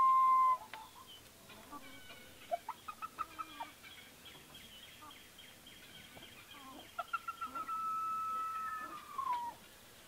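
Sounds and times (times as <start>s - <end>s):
chickens clucking: 0.7s - 9.8s.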